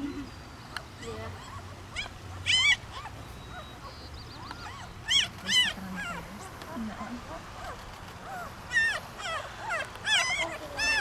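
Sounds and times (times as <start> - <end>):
puppies squealing and whimpering: 0.0 - 11.0.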